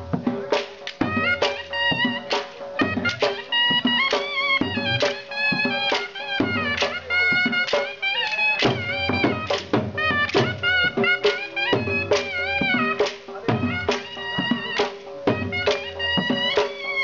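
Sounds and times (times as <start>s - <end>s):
dhol drum beating: 0.0s - 17.0s
wind pipe melody: 0.0s - 17.0s.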